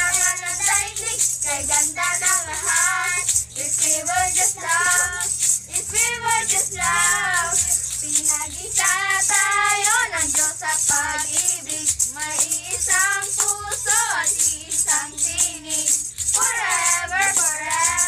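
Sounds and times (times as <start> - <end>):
girls singing a carol: 0.0 - 18.0
rattle shaken in rhythm: 0.0 - 18.0.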